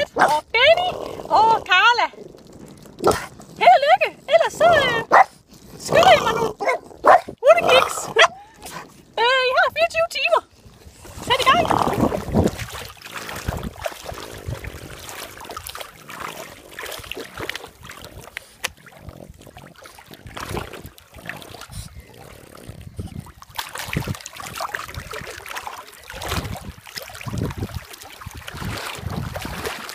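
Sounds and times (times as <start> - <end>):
water splashing and sloshing: 0.0 - 29.9.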